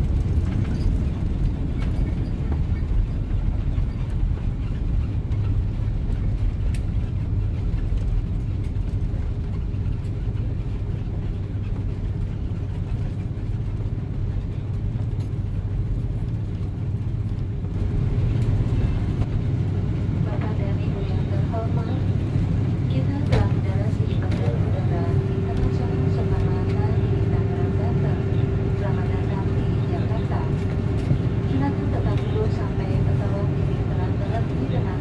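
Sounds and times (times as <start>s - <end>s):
aircraft cabin engine rumble: 0.0s - 35.0s.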